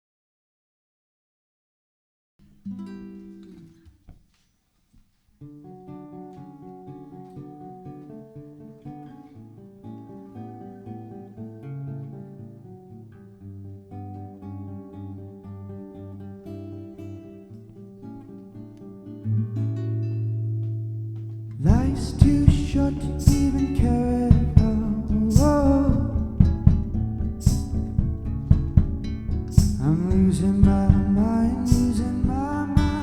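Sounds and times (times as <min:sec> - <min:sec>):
acoustic guitar playing: 0:02.4 - 0:04.5, 0:05.3 - 0:33.0.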